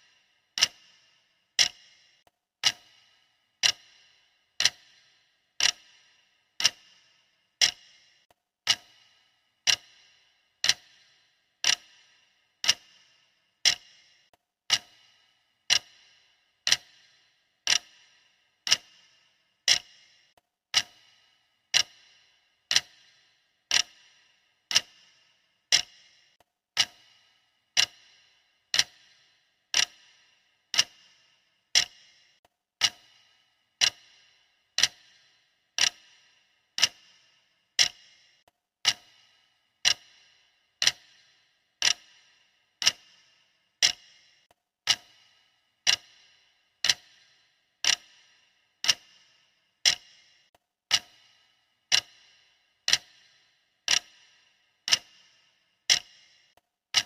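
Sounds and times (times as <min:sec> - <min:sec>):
clock-style ticking: 0:00.0 - 0:57.0.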